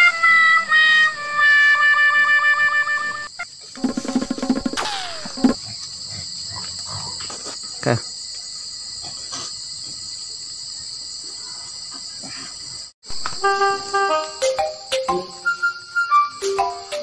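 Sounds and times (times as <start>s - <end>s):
high-pitched insect chorus: 0.3s - 17.0s.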